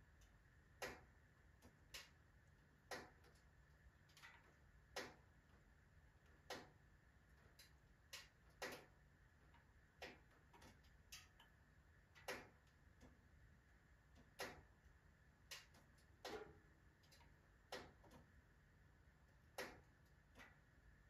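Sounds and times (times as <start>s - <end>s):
firewood crackling and popping: 0.2s - 13.4s, 14.0s - 18.6s.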